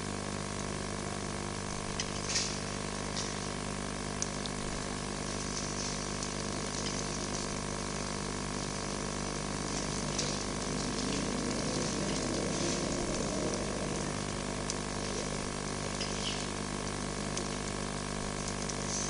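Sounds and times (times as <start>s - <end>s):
grill hissing and humming: 0.0s - 19.0s
fish crackling on grill: 1.9s - 19.0s.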